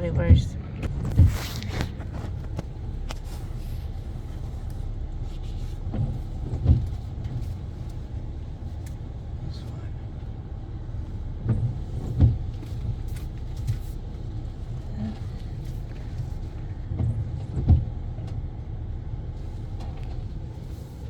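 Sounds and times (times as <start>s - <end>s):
pickup truck engine rumble: 0.4s - 21.0s.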